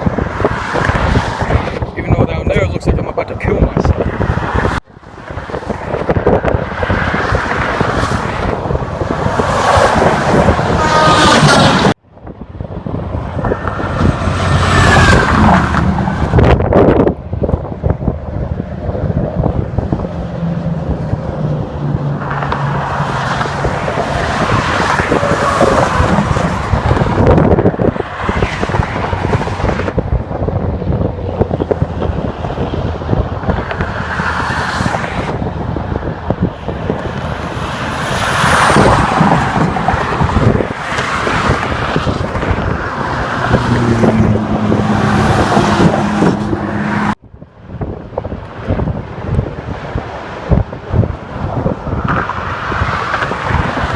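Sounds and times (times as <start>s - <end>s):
constant road roar: 0.0s - 53.9s
vehicles passing: 0.0s - 53.9s.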